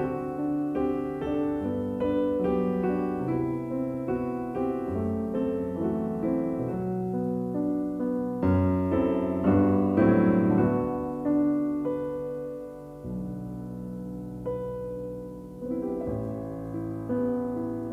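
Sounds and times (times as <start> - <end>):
gentle piano music: 0.0 - 17.9.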